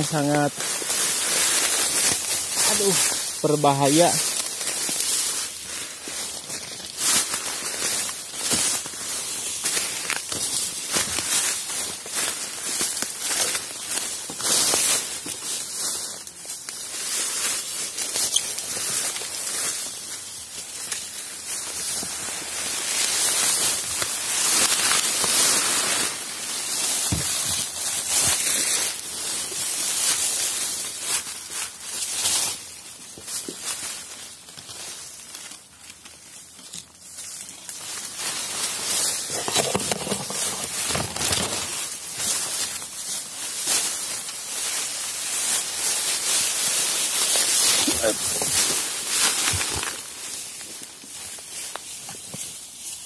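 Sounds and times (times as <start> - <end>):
footsteps crunching dry leaves: 0.0 - 53.0
leaves and stems rustling: 0.0 - 53.0.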